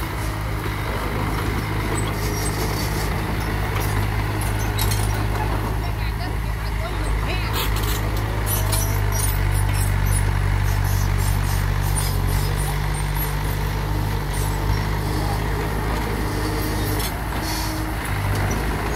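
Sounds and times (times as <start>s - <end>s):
bulldozer diesel engine running: 0.0s - 18.9s.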